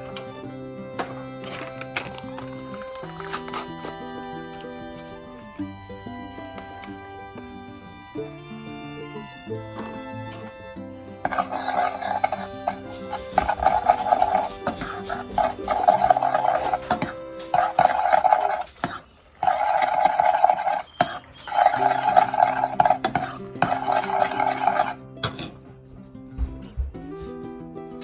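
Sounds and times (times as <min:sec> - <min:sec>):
background music: 0:00.0 - 0:20.8, 0:21.4 - 0:28.0
rough rasping scraping strokes: 0:01.4 - 0:25.4.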